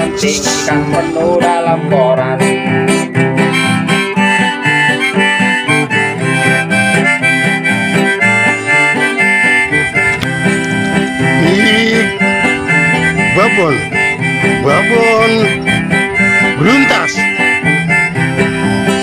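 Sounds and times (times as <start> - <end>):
acoustic guitar: 0.0 - 19.0
harmonica melody: 0.0 - 19.0
steady beat: 3.3 - 19.0.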